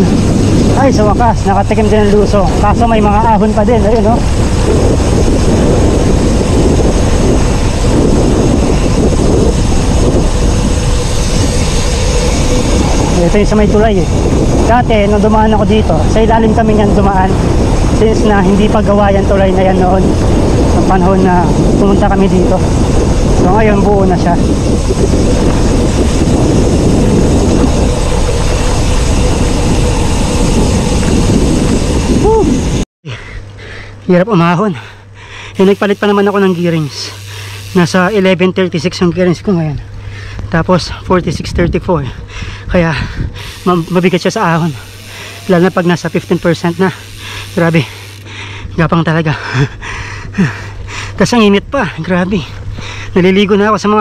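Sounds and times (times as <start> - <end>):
bicycle tyres rolling on road: 0.0 - 32.8, 35.6 - 38.8, 41.4 - 48.5
wind buffeting microphone: 0.0 - 32.8, 34.7 - 54.0.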